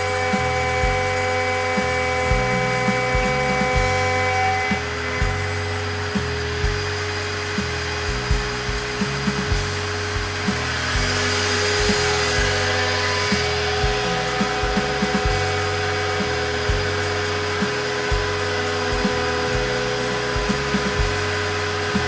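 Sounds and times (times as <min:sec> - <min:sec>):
router spindle whining: 0:00.0 - 0:22.0
stepper motors humming: 0:00.0 - 0:22.0.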